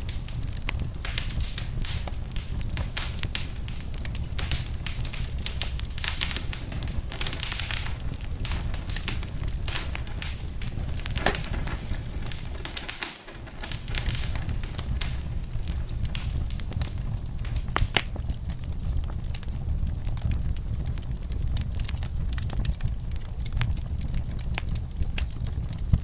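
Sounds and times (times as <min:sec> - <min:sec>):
low rumble of flames: 0:00.0 - 0:26.0
sharp pops of fire: 0:00.0 - 0:26.0
wood fire crackling: 0:00.0 - 0:26.0.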